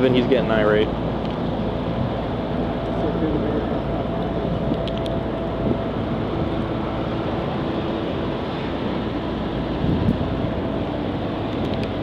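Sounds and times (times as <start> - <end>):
road traffic: 0.0 - 12.0
vehicles passing: 0.0 - 12.0.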